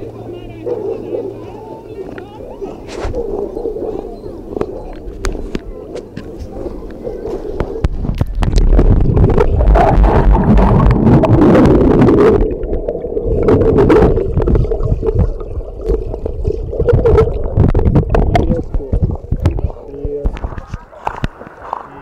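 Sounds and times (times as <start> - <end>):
muffled churning water: 0.0 - 22.0
gurgling bubbles and splashes: 2.3 - 22.0.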